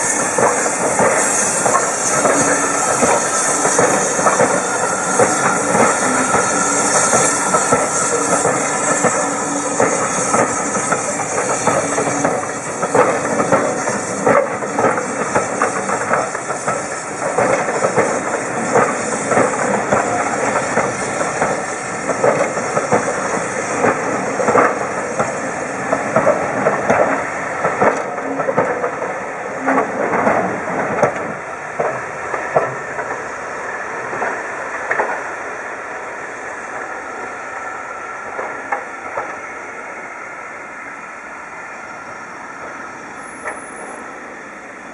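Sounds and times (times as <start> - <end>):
train wheels clicking over rail joints: 0.0 - 37.4, 38.1 - 40.7, 42.6 - 44.9
steam hissing: 0.0 - 44.9.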